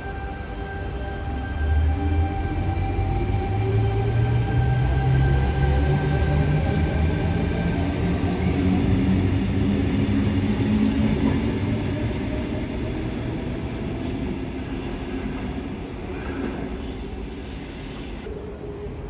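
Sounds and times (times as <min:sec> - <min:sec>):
electric train rumble and motor: 0:00.0 - 0:19.0.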